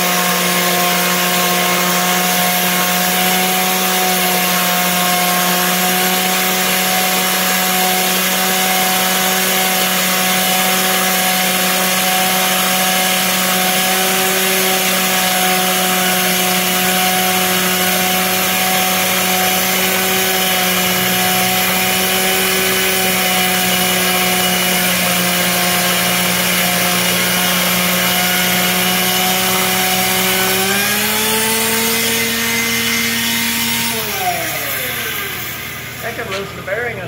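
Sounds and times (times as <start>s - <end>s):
belt sander whining: 0.0s - 37.0s.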